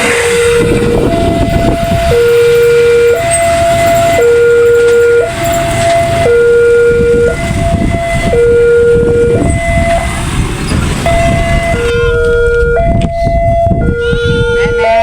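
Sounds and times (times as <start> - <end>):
train rumbling past: 0.0 - 15.0
two-tone crossing warning siren: 0.0 - 15.0.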